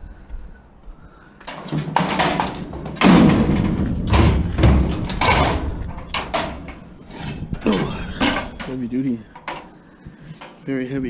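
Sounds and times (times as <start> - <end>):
heavy scrap thumping and scraping: 1.4 - 10.6.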